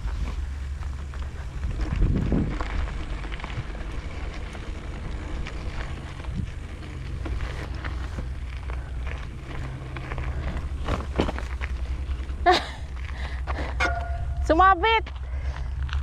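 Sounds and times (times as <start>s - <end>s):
bike rattling on trail: 0.0s - 16.0s
wind buffeting microphone: 0.0s - 16.0s.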